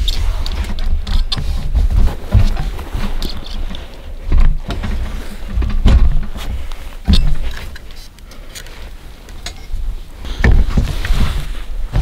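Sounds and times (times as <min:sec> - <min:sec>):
clothing rustling: 0:00.0 - 0:12.0.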